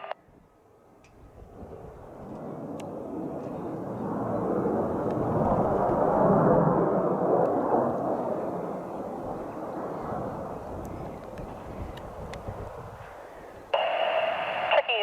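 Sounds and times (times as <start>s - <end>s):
fighter jet engine rumble: 0.0s - 15.0s.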